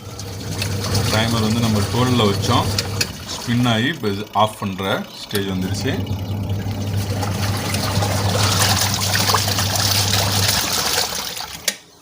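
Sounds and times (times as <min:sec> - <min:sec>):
water churning: 0:00.0 - 0:11.8
washing machine motor hum: 0:00.0 - 0:12.0.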